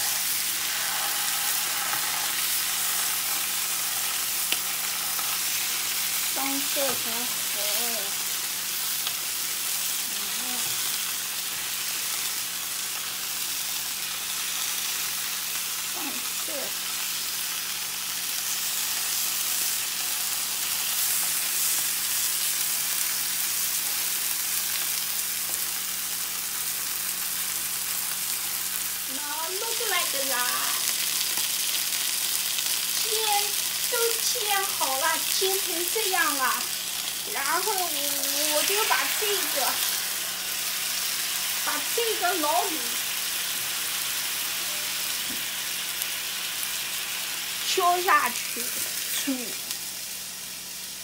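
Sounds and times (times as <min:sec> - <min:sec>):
chicken sizzling in frying pan: 0:00.0 - 0:51.0.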